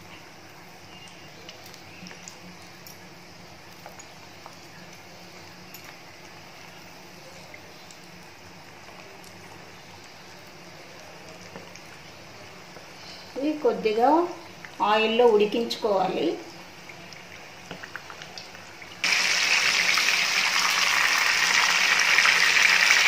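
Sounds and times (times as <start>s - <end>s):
bananas sizzling in hot oil: 0.0s - 23.0s.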